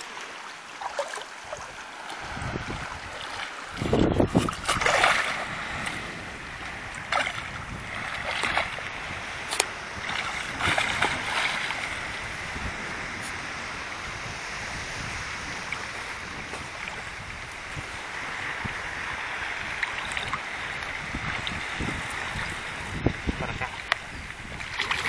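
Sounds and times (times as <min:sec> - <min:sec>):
fish splashing in shallow water: 0:00.0 - 0:25.0
wind buffeting microphone: 0:01.4 - 0:25.0.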